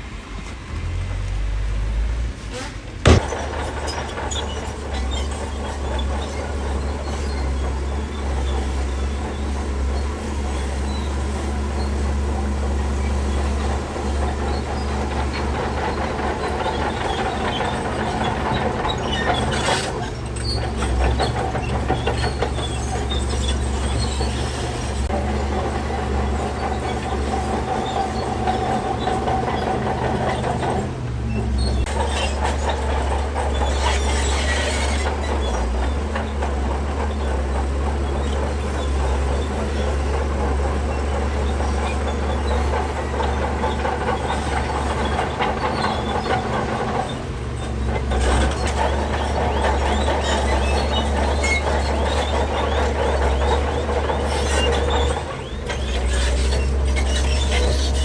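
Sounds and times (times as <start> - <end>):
diesel engine droning: 0.0 - 58.0
steel tracks clanking and squealing: 2.4 - 58.0.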